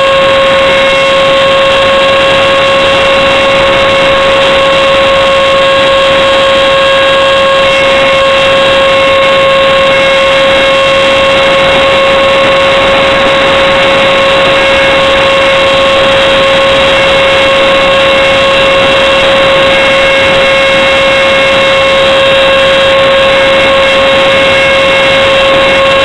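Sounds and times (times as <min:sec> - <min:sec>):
electric motor high whine: 0:00.0 - 0:26.0.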